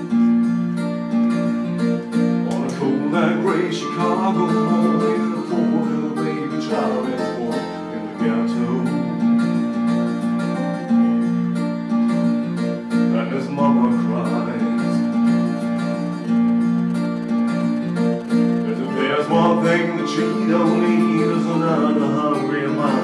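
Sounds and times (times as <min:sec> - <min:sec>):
melodic lead line: 0:00.0 - 0:23.0
strummed acoustic guitar: 0:00.0 - 0:23.0
sustained keyboard chords: 0:00.0 - 0:23.0.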